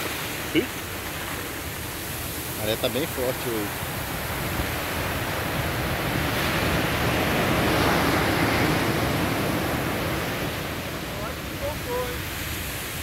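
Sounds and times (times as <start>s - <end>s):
wave breaking on sandy beach: 0.0s - 13.0s.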